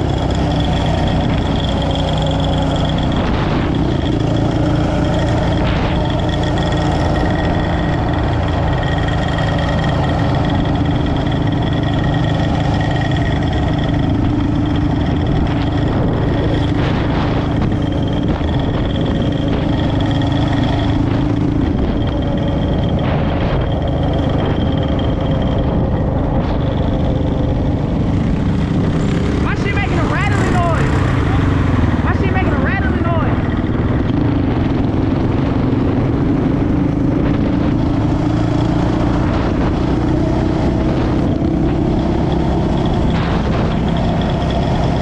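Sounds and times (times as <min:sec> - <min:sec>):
vehicle engine low rumble: 0:00.0 - 0:45.0.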